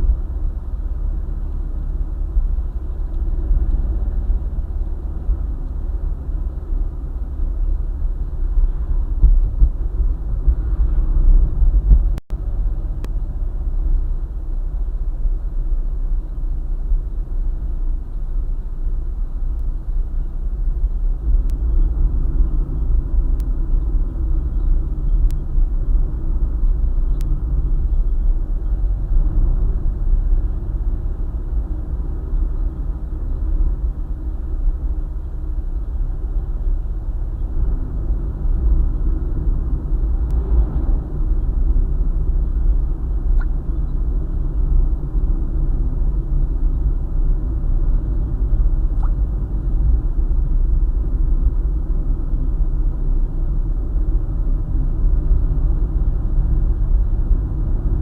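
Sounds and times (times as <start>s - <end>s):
car engine: 0.0s - 58.0s
tyre road noise: 0.0s - 58.0s.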